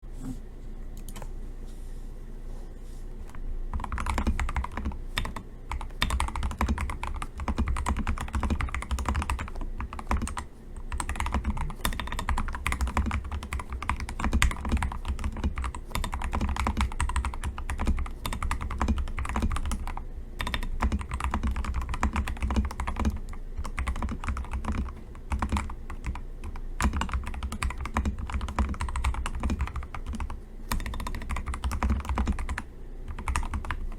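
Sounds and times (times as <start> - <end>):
mechanical keyboard typing: 3.7 - 33.9.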